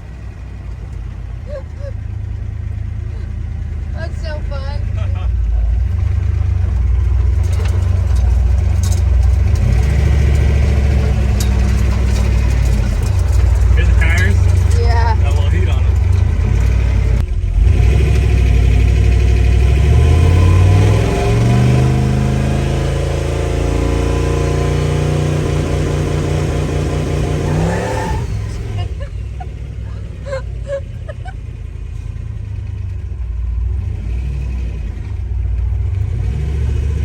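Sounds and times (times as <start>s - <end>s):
truck engine accelerating hard: 0.0s - 37.0s.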